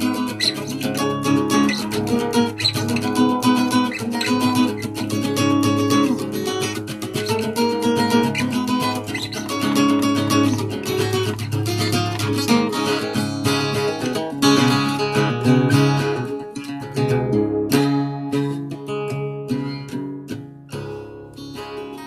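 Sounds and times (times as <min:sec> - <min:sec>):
solo guitar plucked and strummed: 0:00.0 - 0:22.0.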